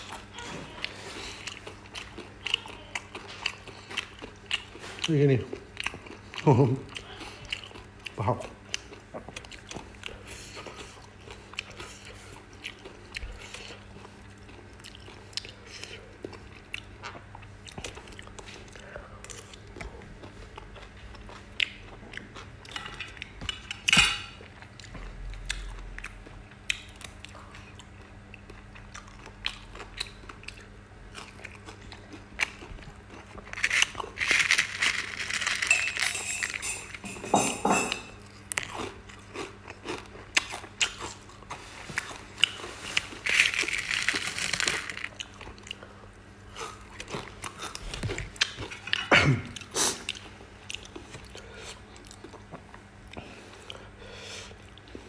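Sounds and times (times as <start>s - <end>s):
person chewing and crunching food: 0.0s - 37.2s, 37.8s - 55.0s.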